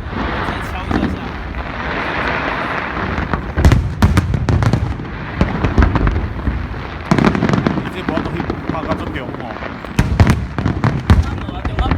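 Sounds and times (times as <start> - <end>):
firework shells booming: 0.0 - 11.9
fireworks crackling: 0.0 - 11.9.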